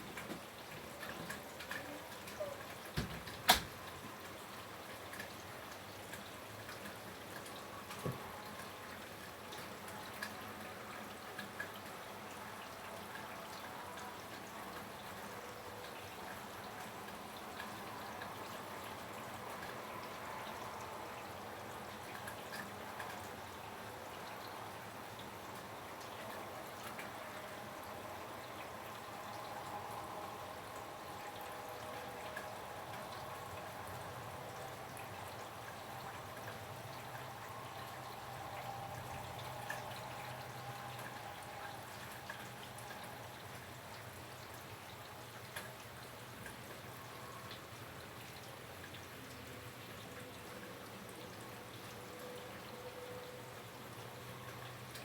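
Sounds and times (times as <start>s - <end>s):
rain falling: 0.0s - 55.0s
water dripping: 0.0s - 55.0s.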